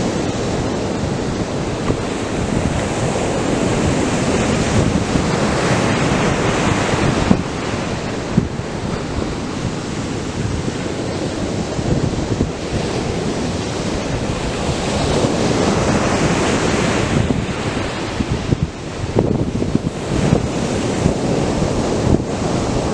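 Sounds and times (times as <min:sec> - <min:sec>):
surf breaking on a beach: 0:00.0 - 0:22.9.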